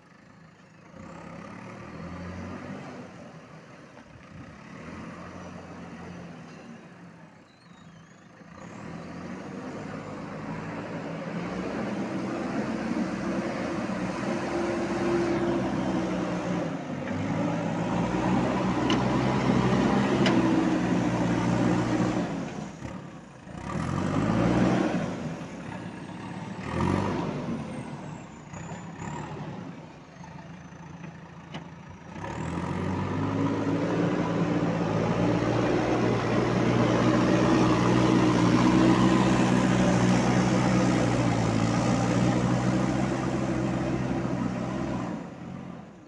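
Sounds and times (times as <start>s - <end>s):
diesel engine revving: 0.1s - 6.5s, 7.8s - 46.0s.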